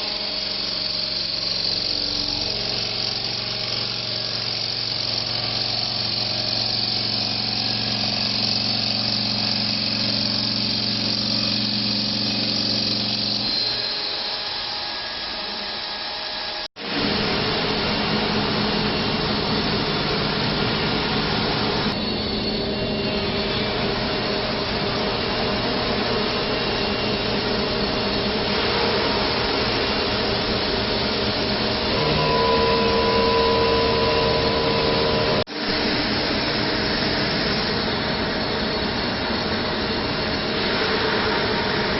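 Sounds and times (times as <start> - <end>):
stone saw motor and cutting: 0.0 - 16.7, 17.9 - 41.9.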